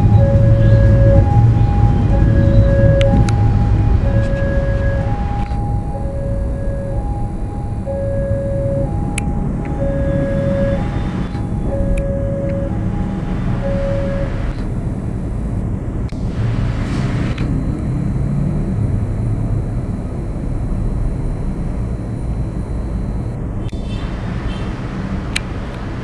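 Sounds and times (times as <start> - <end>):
diesel train rumble: 0.0 - 26.0
faint high whine: 1.7 - 23.4.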